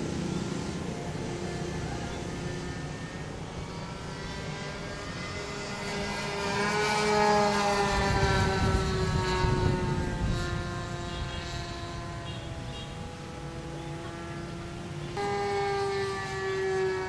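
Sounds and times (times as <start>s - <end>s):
model plane engine whine: 0.0s - 17.0s.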